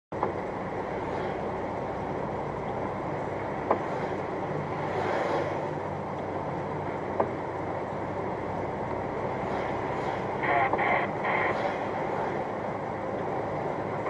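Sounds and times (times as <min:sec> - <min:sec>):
car road and engine noise: 0:00.1 - 0:14.0.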